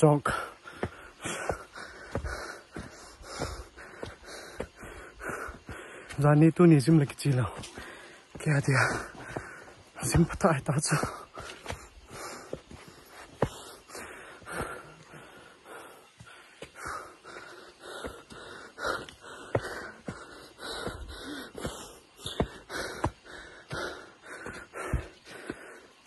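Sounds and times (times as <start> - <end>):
person breathing heavily: 0.2 - 6.2, 7.5 - 10.0, 10.9 - 26.0.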